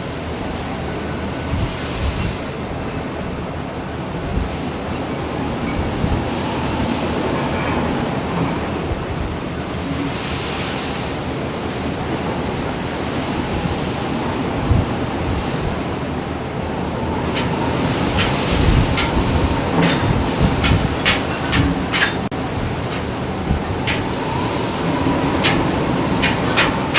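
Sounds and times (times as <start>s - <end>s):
sea waves breaking against ship: 0.0s - 26.9s
wind buffeting microphone: 0.0s - 26.9s.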